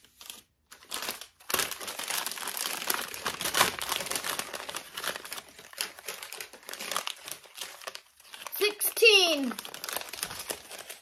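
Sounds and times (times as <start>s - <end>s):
package wrapping crinkling: 0.0s - 11.0s.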